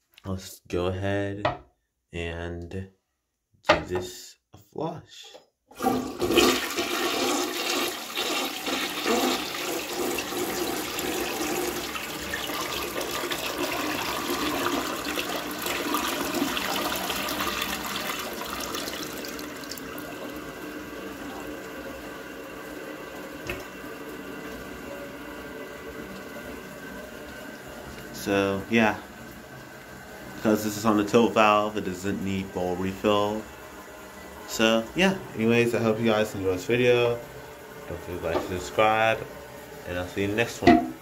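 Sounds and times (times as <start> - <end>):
toilet flushing: 5.7 - 41.0
toilet tank refilling: 5.7 - 41.0.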